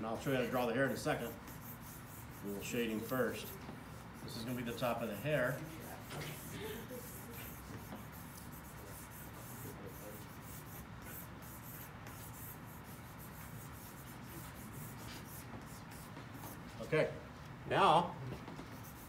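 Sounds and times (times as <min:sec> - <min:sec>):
pencil scratching on paper: 0:00.2 - 0:16.6, 0:18.7 - 0:19.0.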